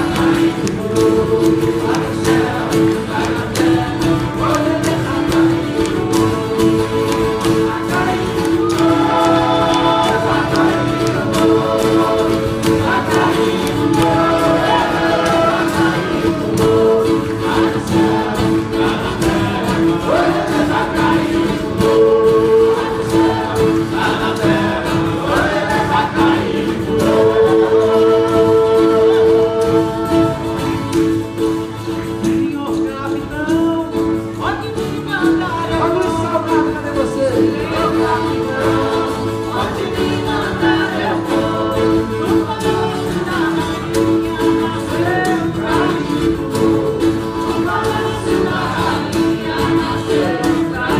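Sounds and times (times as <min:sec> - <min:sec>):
group of voices singing: 0:00.0 - 0:50.9
strummed acoustic guitars: 0:00.0 - 0:50.9.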